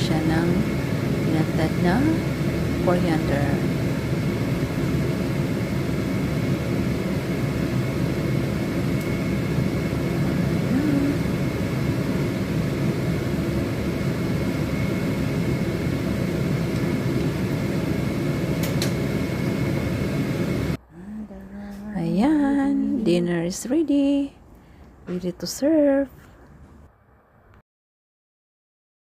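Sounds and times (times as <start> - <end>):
fan running: 0.0 - 27.3.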